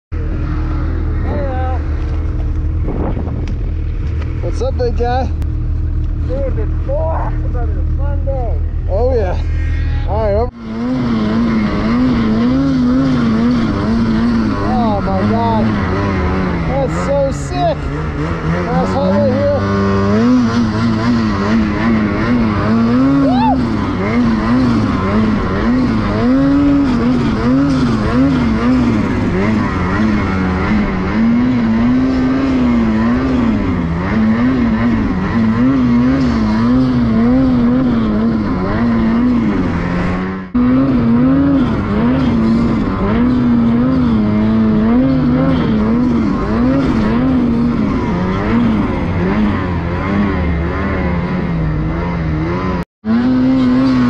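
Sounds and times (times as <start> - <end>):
snowmobile engine revving: 0.2 - 54.0.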